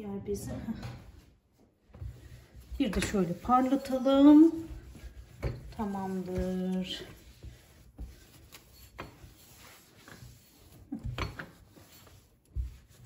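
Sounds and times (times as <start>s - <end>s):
cloth rubbing on glass: 1.1s - 13.0s.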